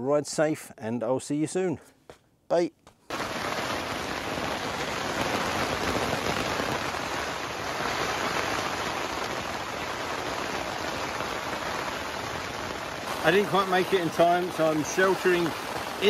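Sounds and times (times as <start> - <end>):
heavy rain pouring: 3.1 - 16.0.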